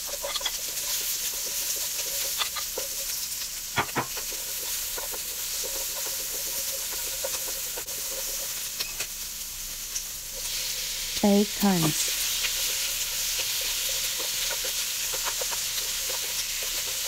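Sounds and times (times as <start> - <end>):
onion sizzling in butter: 0.0 - 17.0.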